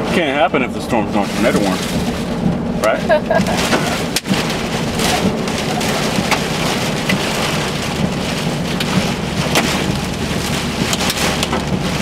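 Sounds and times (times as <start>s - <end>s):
heavy rain on car roof: 0.0s - 12.0s
low hum of car on road: 0.0s - 12.0s.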